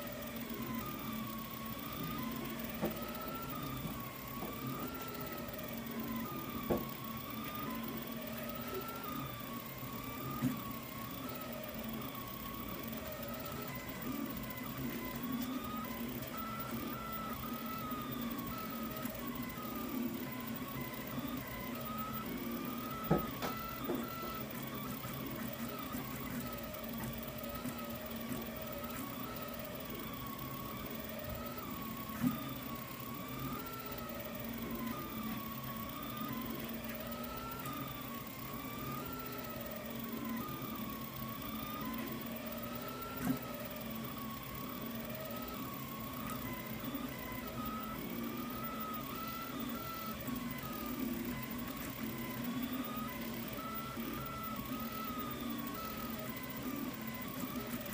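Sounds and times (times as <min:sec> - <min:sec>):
sharp printer clicks: 0:00.0 - 0:57.9
steady hum: 0:00.0 - 0:57.9
stepper motors whining: 0:00.0 - 0:57.9.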